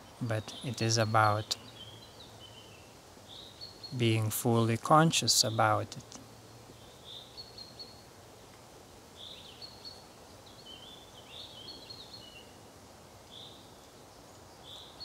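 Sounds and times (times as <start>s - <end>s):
soft background hiss: 0.0s - 15.0s
songbirds singing faintly: 0.0s - 15.0s.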